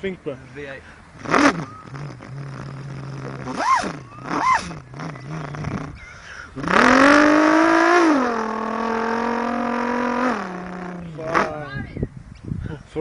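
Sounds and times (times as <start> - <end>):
person imitating engine revving: 1.2 - 11.8.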